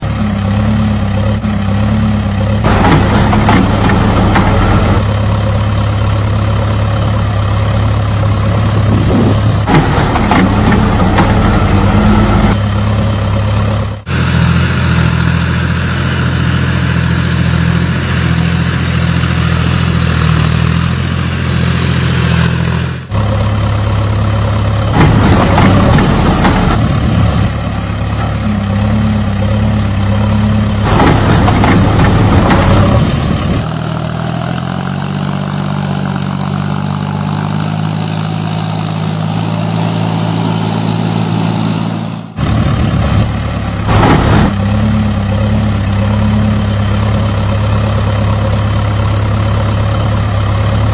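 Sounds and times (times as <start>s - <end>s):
heavy vehicle engine idling: 0.0s - 50.9s.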